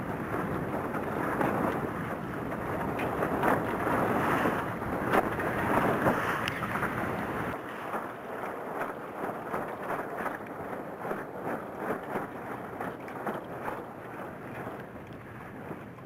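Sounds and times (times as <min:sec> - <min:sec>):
sea water rushing and splashing: 0:00.0 - 0:16.0
wind buffeting microphone: 0:00.0 - 0:16.0.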